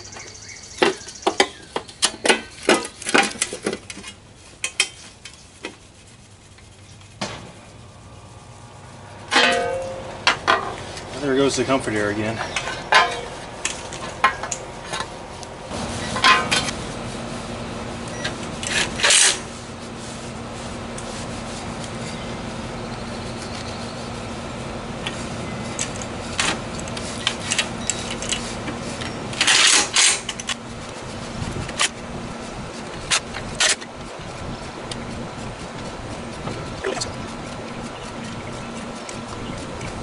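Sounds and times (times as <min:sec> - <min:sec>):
air conditioner hum: 0:00.0 - 0:40.0
rubbing and scraping: 0:00.8 - 0:17.6, 0:18.4 - 0:24.4, 0:25.0 - 0:40.0.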